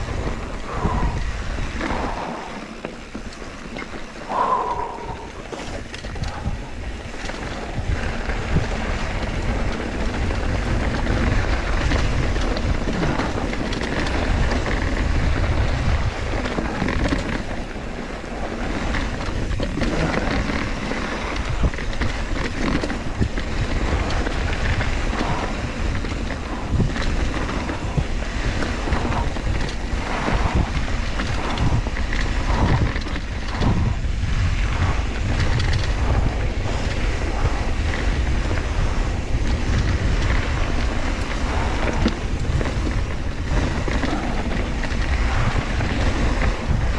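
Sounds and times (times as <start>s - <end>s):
tyres rumbling on dirt: 0.0s - 46.9s
wind buffeting microphone: 0.0s - 46.9s
bike knocks and rattles: 5.4s - 46.9s.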